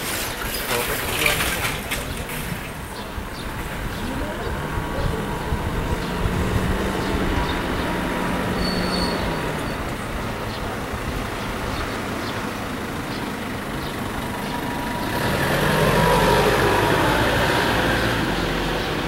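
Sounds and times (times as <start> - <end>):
rumble of vehicles: 0.0 - 19.0.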